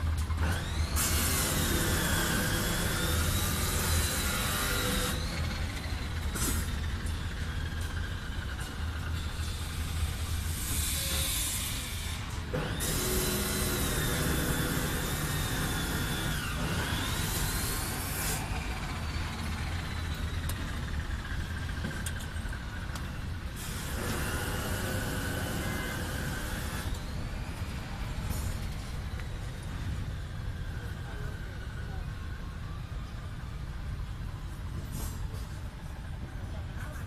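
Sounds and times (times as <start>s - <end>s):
low traffic rumble: 0.0s - 37.0s.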